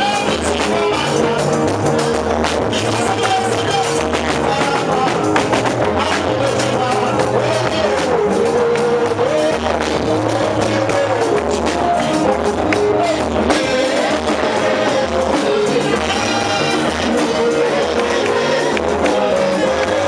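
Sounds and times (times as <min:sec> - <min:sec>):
choir singing with instruments: 0:00.0 - 0:20.0.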